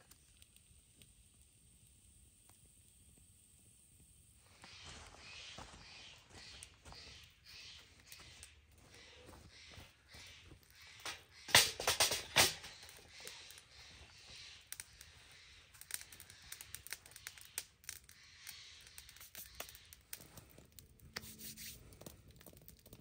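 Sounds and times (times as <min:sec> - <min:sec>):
campfire crackling and popping: 0:00.0 - 0:04.8, 0:06.3 - 0:23.0.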